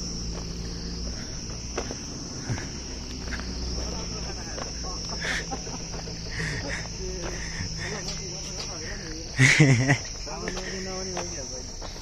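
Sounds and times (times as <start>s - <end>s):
high-pitched insect chorus: 0.0s - 12.0s
voices: 0.0s - 12.0s.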